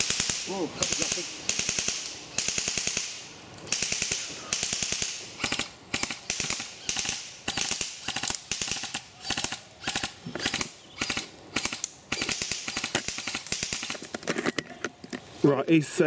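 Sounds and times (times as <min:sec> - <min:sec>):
airsoft guns firing bursts: 0:00.0 - 0:14.0.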